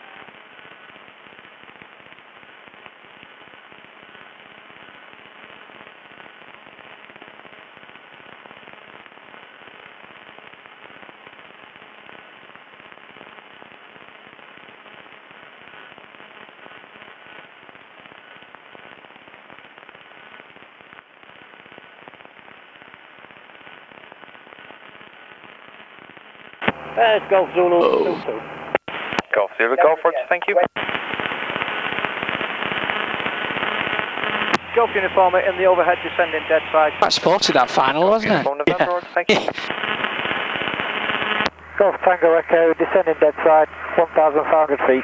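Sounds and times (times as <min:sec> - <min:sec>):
radio static crackling: 0:00.0 - 0:45.0.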